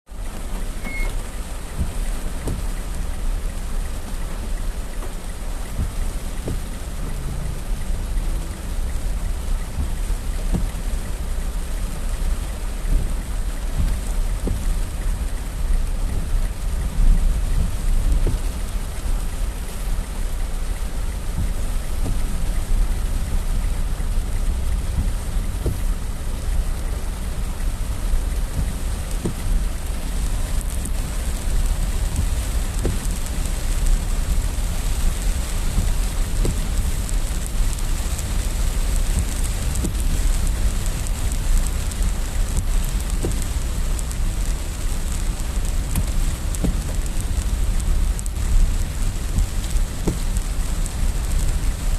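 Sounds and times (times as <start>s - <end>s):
heavy rain pouring: 0.1s - 51.9s
raindrops ticking close by: 0.1s - 51.9s.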